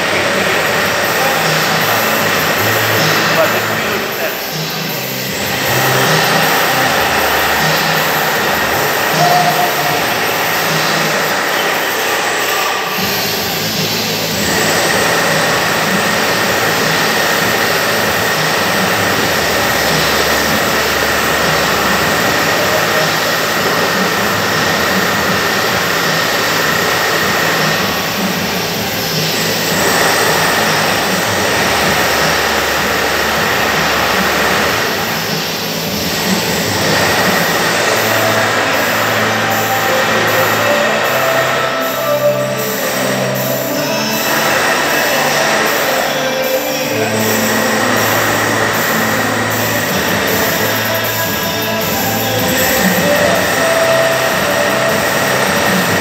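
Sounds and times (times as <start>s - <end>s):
loud rushing noise: 0.0s - 56.0s
thin high whine: 0.0s - 56.0s.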